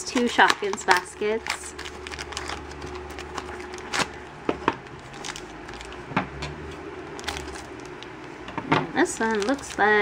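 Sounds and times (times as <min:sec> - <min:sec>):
plastic packaging crinkling: 0:00.0 - 0:06.1, 0:07.0 - 0:10.0.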